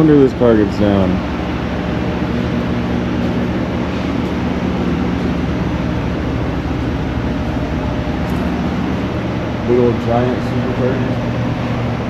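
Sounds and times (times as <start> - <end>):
air-conditioning unit drone: 0.0 - 12.0
low hum: 0.0 - 12.0.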